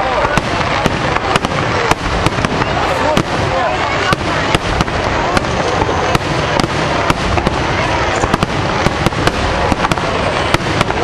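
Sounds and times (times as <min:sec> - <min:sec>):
fireworks crackle and rumble: 0:00.0 - 0:11.0
fireworks sharp bangs: 0:00.0 - 0:11.0.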